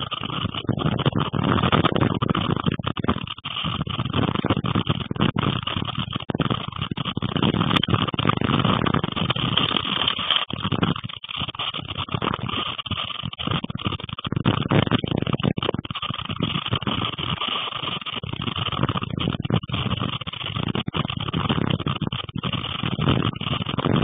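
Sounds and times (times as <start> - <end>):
gusting storm wind: 0.0 - 24.0.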